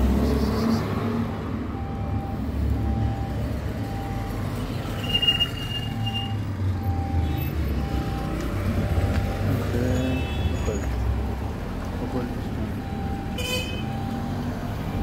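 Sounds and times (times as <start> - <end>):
passing vehicle engines: 0.0 - 15.0.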